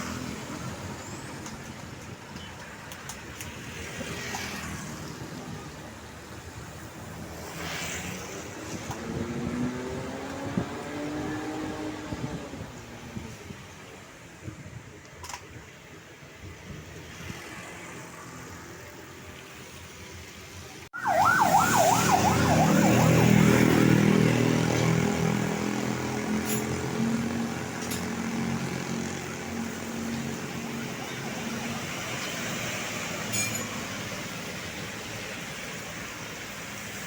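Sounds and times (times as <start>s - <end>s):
road noise: 0.0s - 37.0s.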